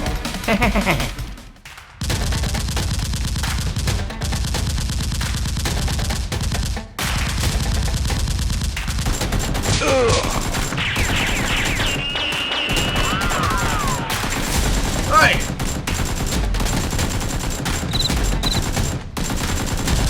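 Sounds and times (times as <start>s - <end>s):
rapid automatic gunfire: 2.0s - 20.0s.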